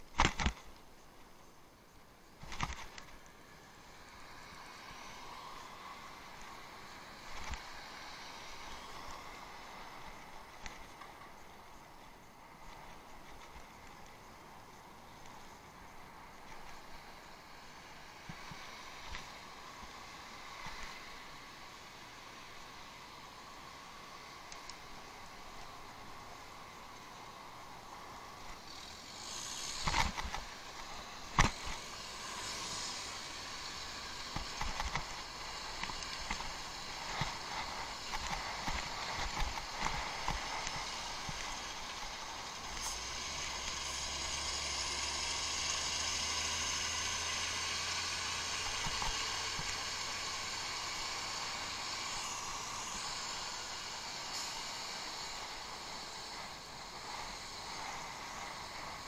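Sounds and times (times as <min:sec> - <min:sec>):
rushing noise with low rumble: 0:02.3 - 0:59.0.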